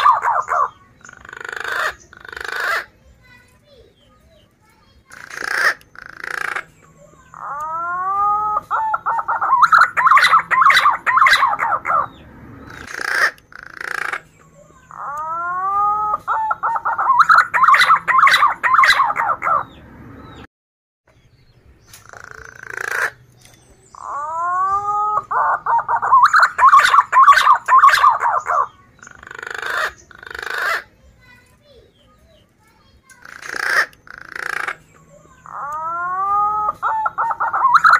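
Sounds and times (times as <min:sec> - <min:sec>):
pigeon singing: 0:00.0 - 0:20.5, 0:21.2 - 0:37.9.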